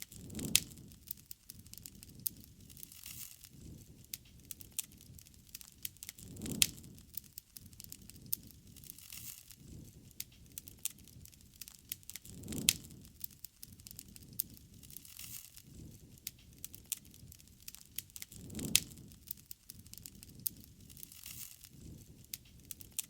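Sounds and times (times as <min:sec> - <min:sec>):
campfire crackling and popping: 0:00.0 - 0:23.0
soft rush of flame: 0:00.0 - 0:23.0.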